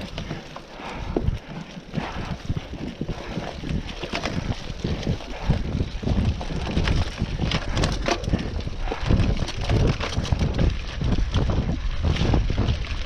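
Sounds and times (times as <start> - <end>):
bike rattling over bumps: 0.0 - 13.0
bike tyres rumbling on dirt: 0.0 - 13.0
wheels crunching through leaves: 0.0 - 13.0
wind on microphone: 0.0 - 13.0.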